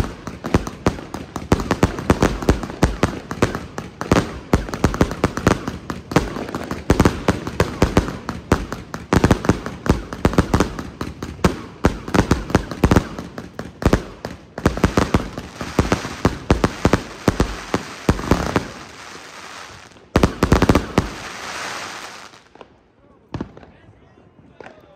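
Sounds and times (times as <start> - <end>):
hissing firework crackle: 0.0 - 22.6
firework bangs: 0.0 - 22.7.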